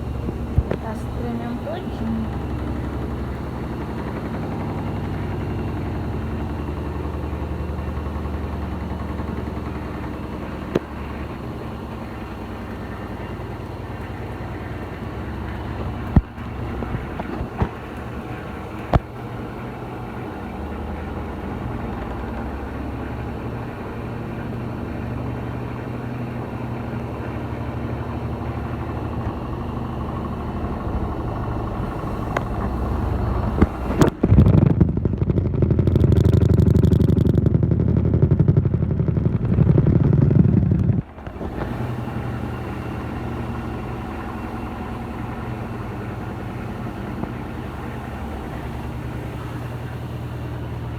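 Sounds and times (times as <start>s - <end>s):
heavy mechanical rumble: 0.0s - 50.9s
washing machine spin hum: 0.0s - 50.9s.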